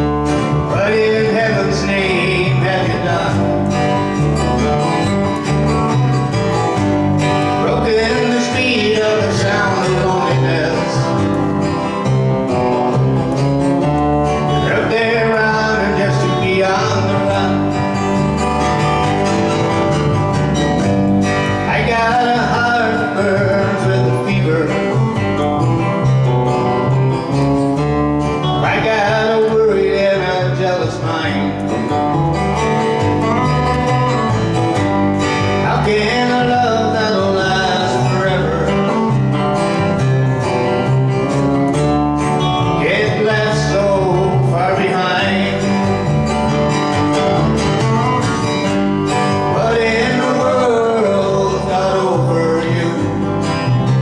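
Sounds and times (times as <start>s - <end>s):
country song with acoustic guitar: 0.0s - 54.0s.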